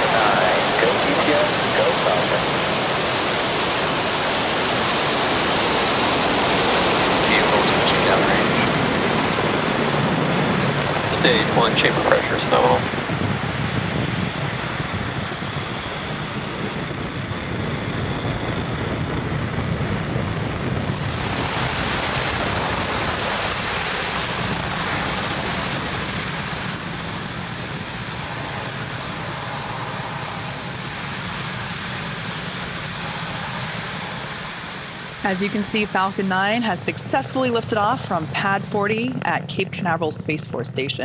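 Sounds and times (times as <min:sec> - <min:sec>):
rocket engines rumbling: 0:00.0 - 0:41.0.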